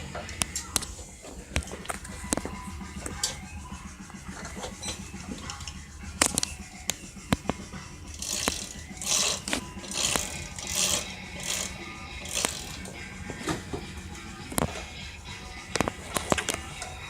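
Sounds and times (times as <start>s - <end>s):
short rattling bursts: 0.6s - 17.0s.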